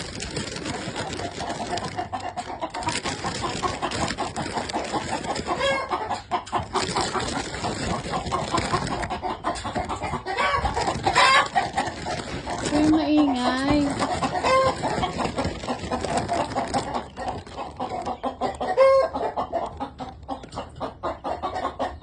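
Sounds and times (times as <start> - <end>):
chickens clucking: 0.0 - 22.0
high chicken chirp: 1.9 - 22.0.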